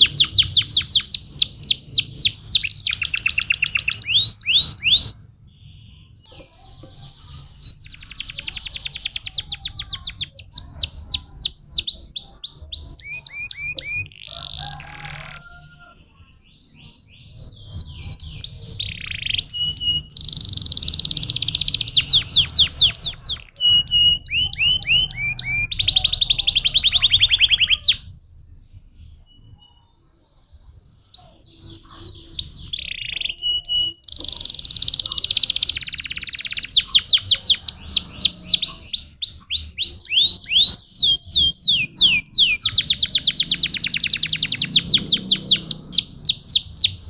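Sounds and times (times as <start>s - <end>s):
canary singing trills: 0.0s - 47.0s.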